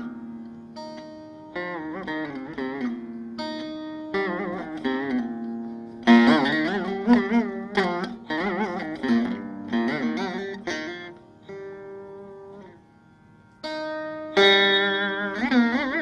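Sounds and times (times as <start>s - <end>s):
veena plucked notes: 0.0s - 16.0s.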